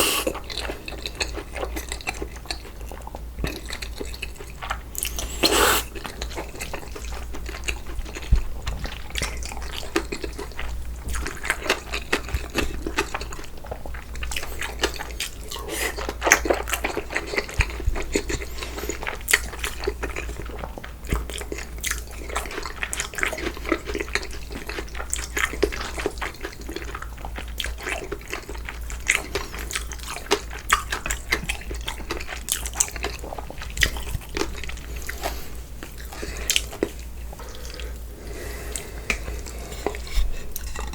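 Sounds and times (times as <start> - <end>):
wet chewing and mouth smacks: 0.0 - 38.1.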